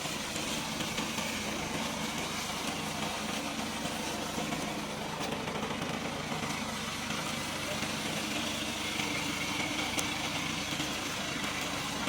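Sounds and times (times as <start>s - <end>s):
robot lawn mower engine running: 0.0s - 12.0s.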